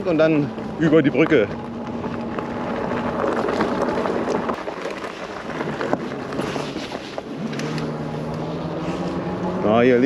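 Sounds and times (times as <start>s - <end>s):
bike tyres rushing: 0.0s - 10.0s
small crackles and ticks: 0.1s - 9.1s.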